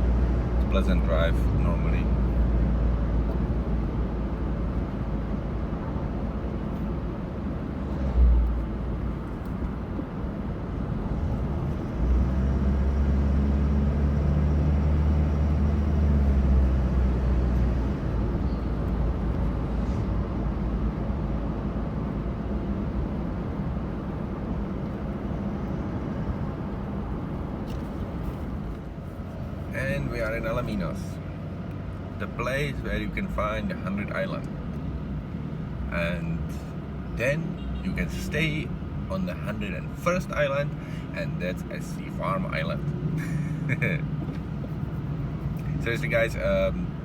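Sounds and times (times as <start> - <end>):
vehicle engine and tyre noise: 0.0 - 47.0.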